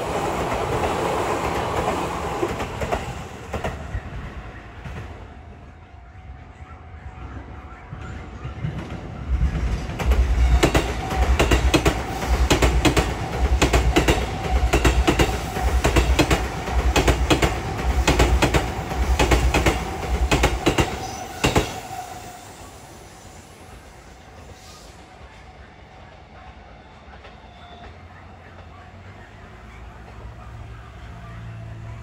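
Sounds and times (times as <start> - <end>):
electric train passing: 0.0 - 32.0.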